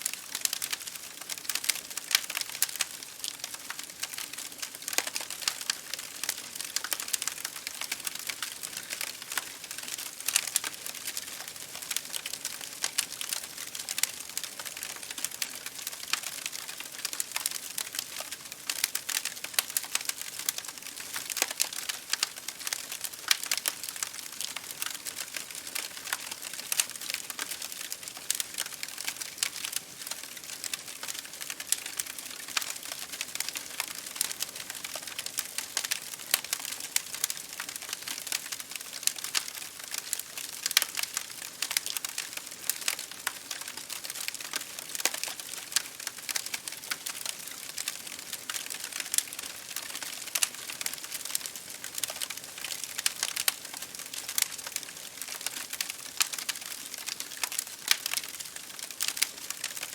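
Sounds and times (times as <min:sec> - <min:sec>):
rain on a window: 0:00.0 - 0:59.9
wood fire crackling: 0:00.0 - 0:59.9.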